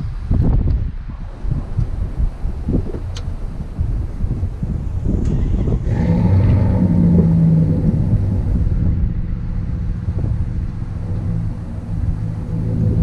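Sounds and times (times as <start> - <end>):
engine hum: 0.0 - 13.0
wind buffeting microphone: 0.0 - 13.0.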